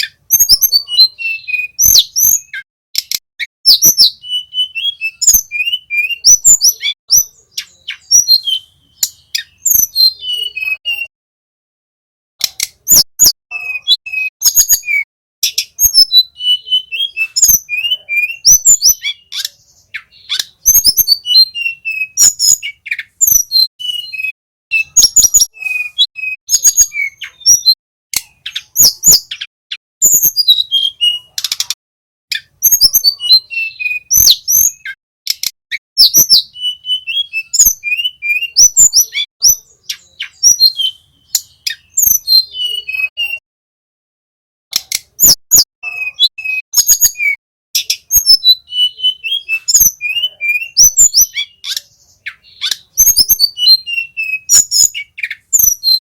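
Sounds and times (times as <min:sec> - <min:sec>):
small bird chirping and whistling: 0:00.0 - 0:11.1, 0:12.4 - 0:43.4, 0:44.7 - 0:56.0.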